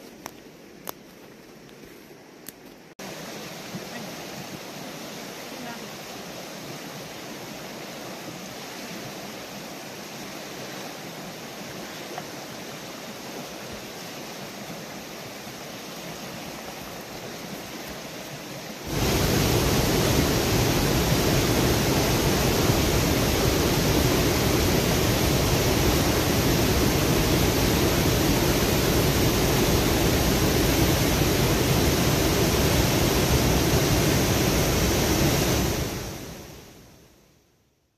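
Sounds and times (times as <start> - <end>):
fast river water rushing: 3.0 - 36.7.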